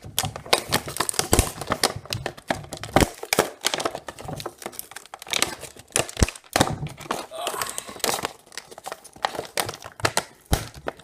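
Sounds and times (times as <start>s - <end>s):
packaging being opened by hand: 0.0s - 11.0s.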